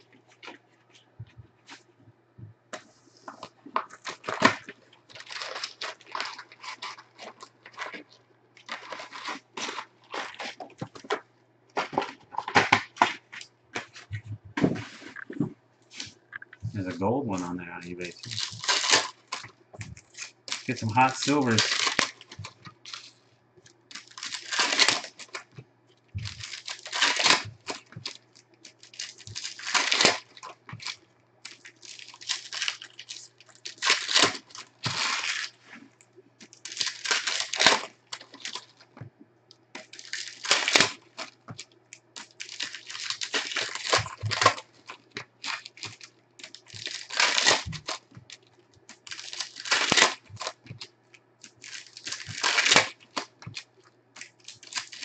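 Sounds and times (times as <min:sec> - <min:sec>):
foil wrappers tearing and crinkling: 0:03.3 - 0:11.2, 0:11.8 - 0:14.1, 0:16.0 - 0:23.2, 0:23.9 - 0:25.5, 0:26.2 - 0:38.9, 0:39.8 - 0:55.0.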